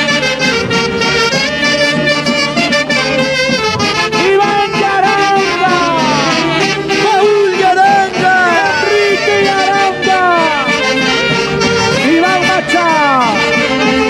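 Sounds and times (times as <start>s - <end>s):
live band with saxophones and brass: 0.0s - 14.0s.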